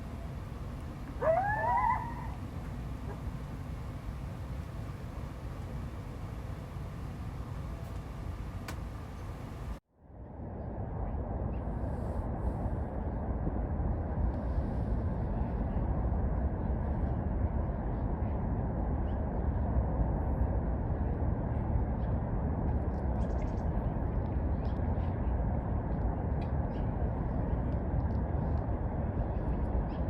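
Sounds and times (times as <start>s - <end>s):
low rumbling background noise: 0.0s - 30.0s.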